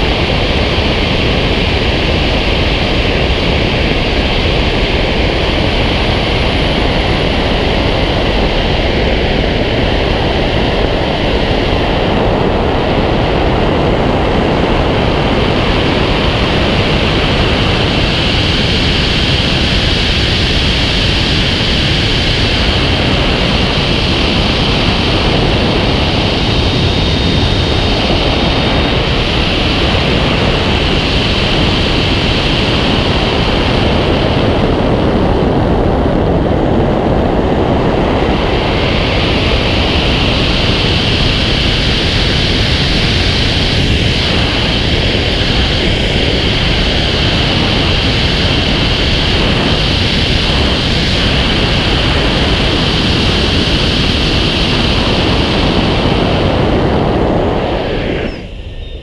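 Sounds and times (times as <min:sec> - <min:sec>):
wind rushing over camera: 0:00.0 - 0:59.0.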